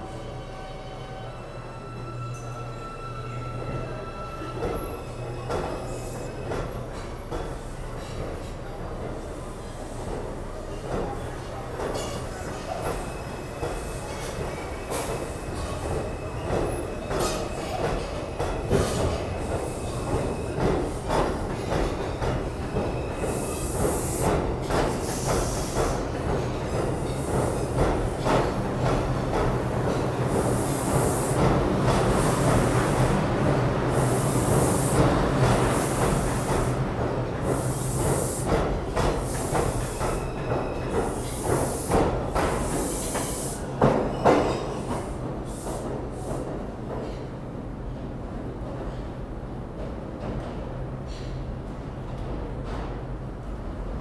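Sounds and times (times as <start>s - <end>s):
subway train rumble and hum: 0.0s - 54.0s.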